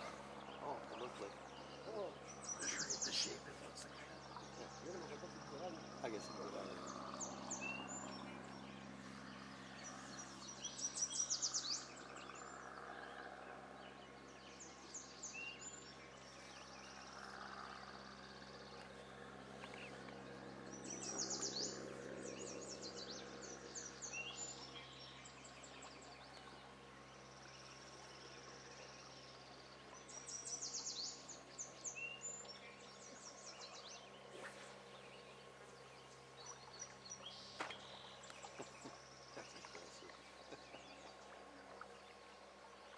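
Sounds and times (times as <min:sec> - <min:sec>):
outdoor background noise: 0:00.0 - 0:42.9
songbird singing: 0:00.0 - 0:42.9.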